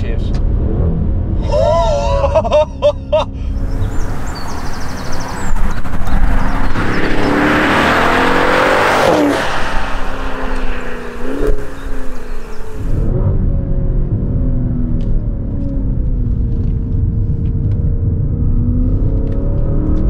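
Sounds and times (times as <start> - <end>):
car engine accelerating: 0.3 - 20.0.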